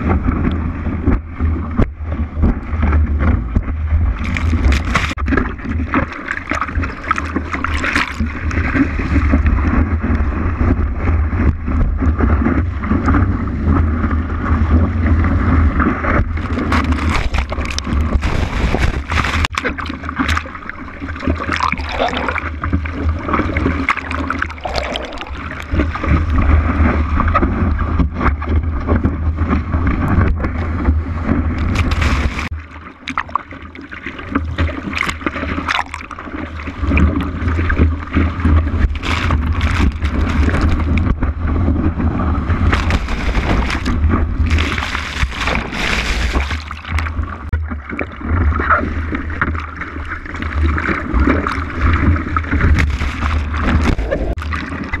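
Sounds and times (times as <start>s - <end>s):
low rumble of water and wind: 0.0s - 55.0s
water sloshing and splashing: 0.0s - 55.0s
arm strokes slapping water: 1.8s - 55.0s.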